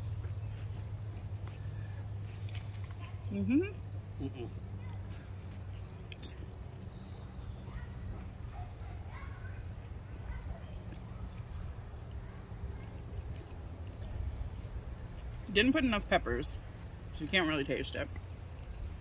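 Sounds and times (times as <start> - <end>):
crickets chirping: 0.0 - 19.0
low steady hum: 0.0 - 19.0.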